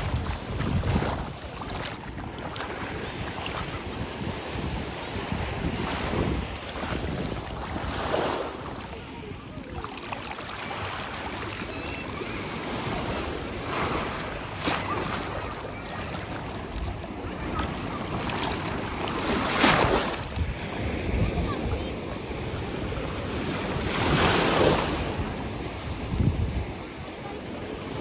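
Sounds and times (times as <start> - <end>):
wind rumble on microphone: 0.0 - 9.9, 15.3 - 28.0
sea waves washing onto beach: 0.0 - 28.0.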